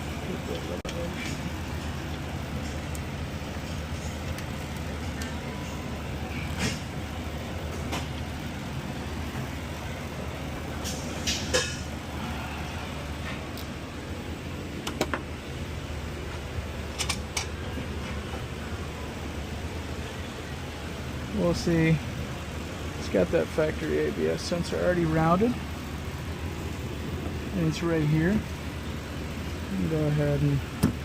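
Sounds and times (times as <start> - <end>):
low shop hum: 0.0 - 31.0.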